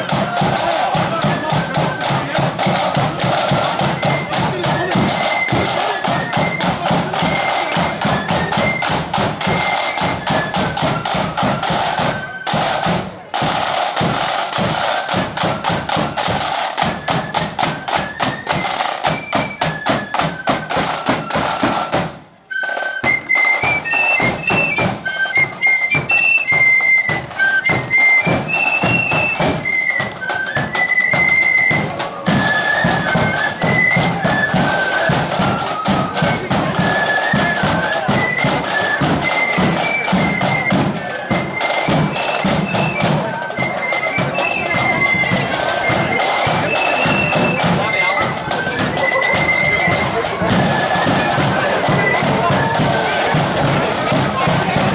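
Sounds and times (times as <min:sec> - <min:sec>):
flutes playing a high melody: 0:00.0 - 0:54.9
side drum beats: 0:00.0 - 0:54.9.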